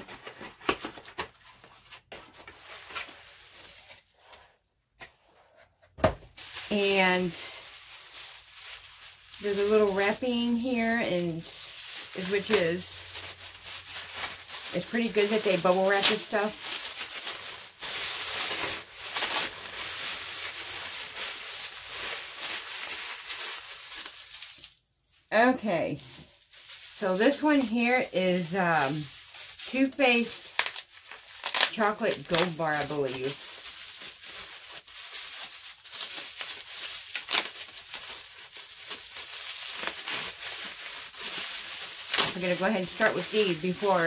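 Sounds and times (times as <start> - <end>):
packaging rustling and crinkling: 0.0 - 44.0.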